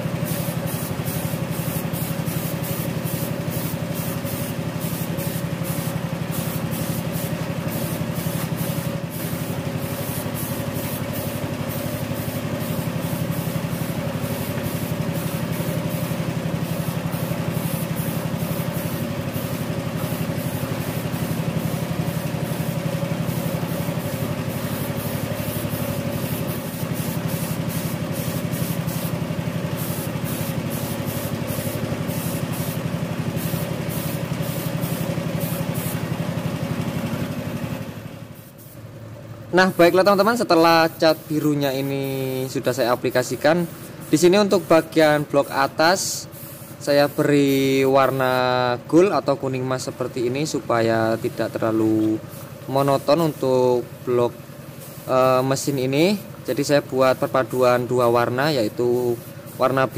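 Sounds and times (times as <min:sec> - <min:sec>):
spray gun hissing in bursts: 0:00.0 - 0:59.9.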